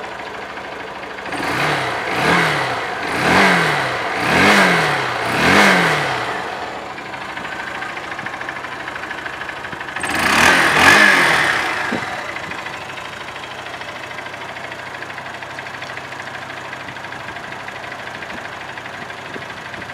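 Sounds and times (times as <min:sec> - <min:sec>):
engine throttle blips: 0:00.0 - 0:19.9
motorcycle engine idling: 0:00.0 - 0:19.9.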